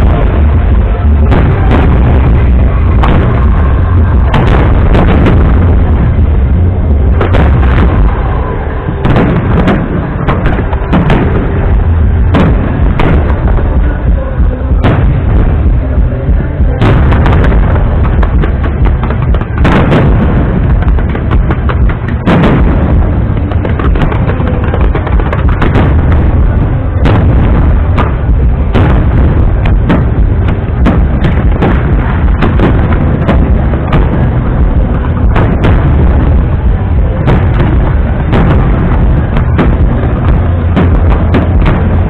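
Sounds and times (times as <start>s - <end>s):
fireworks exploding: 0.0s - 42.0s.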